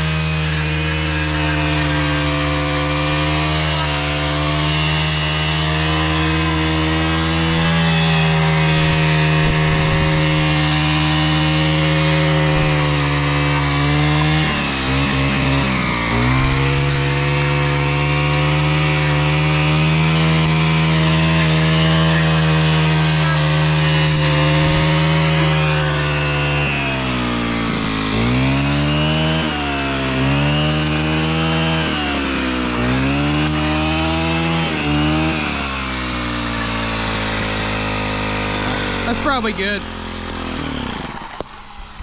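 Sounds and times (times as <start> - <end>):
string trimmer engine: 0.0 - 42.0.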